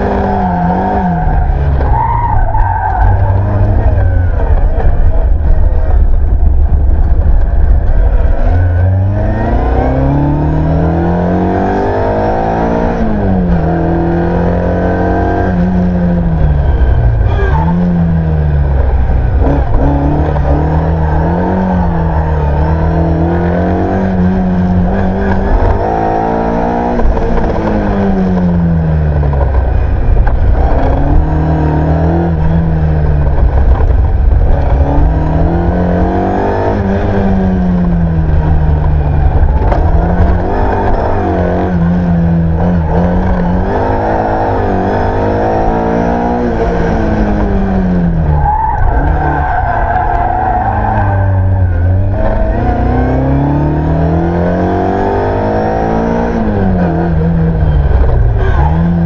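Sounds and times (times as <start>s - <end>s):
car engine revving hard: 8.2s - 18.4s, 19.0s - 59.0s.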